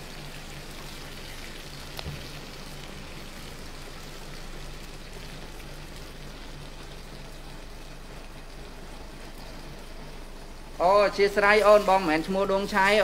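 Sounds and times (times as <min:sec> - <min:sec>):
stockpot hissing on stove: 0:00.0 - 0:13.0.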